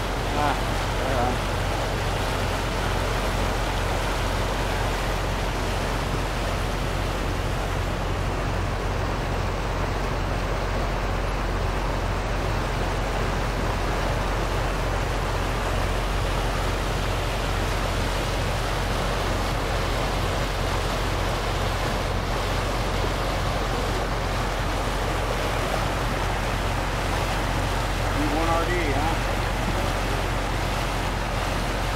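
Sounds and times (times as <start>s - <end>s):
low engine hum: 0.0s - 31.9s
water rushing along a hull: 0.0s - 31.9s.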